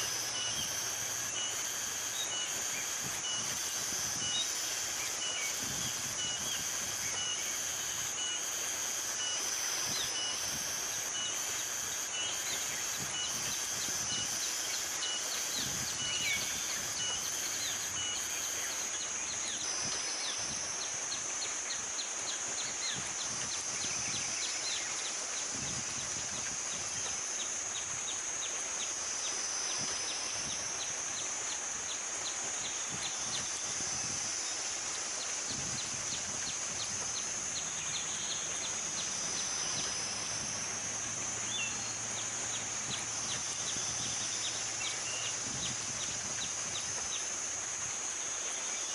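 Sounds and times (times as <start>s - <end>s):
high-pitched insect drone: 0.0s - 48.9s.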